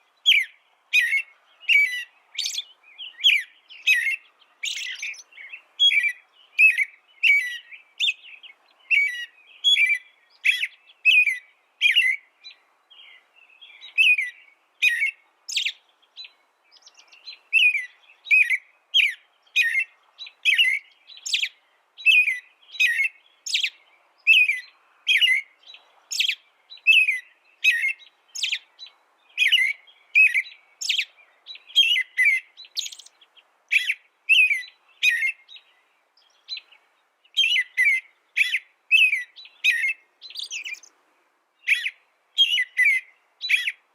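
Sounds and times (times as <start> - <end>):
small songbird chirping: 0.0 - 43.9.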